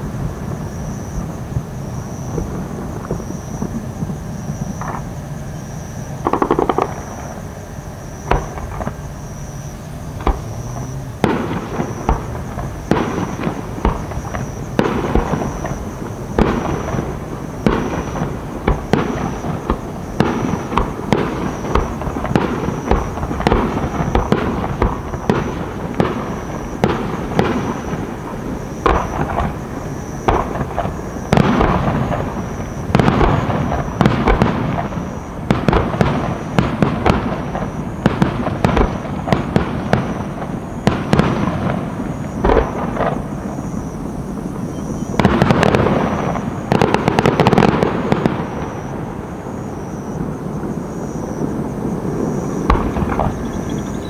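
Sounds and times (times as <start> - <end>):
fireworks bangs and bursts: 0.0 - 54.0.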